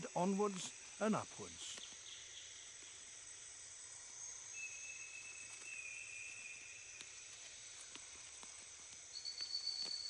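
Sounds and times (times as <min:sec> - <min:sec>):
insects calling high-pitched: 0:00.0 - 0:10.0.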